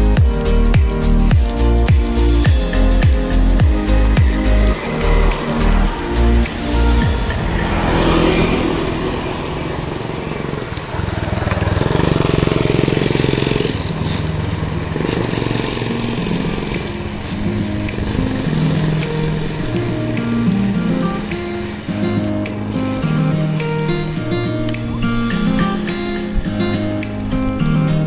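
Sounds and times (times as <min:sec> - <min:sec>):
motorbike engines running: 0:00.0 - 0:28.0
motorbike passing close: 0:01.0 - 0:28.0.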